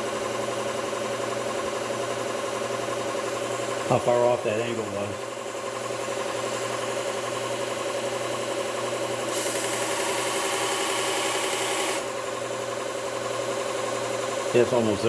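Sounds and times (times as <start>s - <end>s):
belt sharpener motor running: 2.7s - 14.8s.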